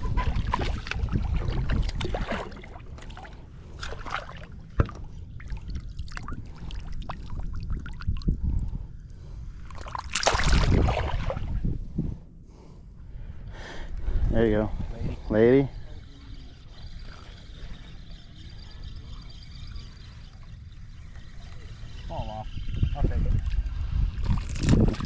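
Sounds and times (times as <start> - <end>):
wind rumbling on microphone: 0.0 - 3.7, 4.4 - 25.0
water lapping around boat: 0.0 - 25.0.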